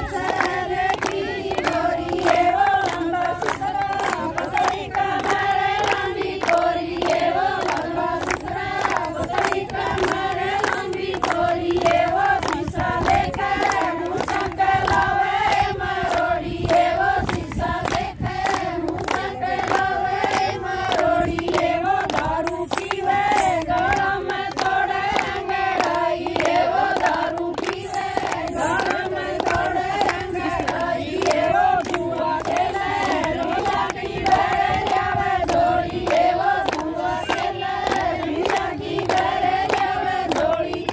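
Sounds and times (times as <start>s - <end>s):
hand clapping: 0.0s - 40.9s
women singing a folk song: 0.0s - 40.9s.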